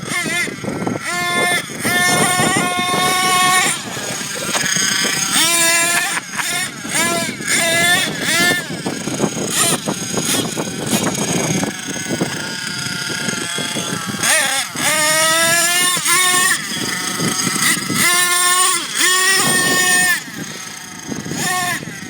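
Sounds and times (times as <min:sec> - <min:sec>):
rc nitro engine revving: 0:00.0 - 0:22.0.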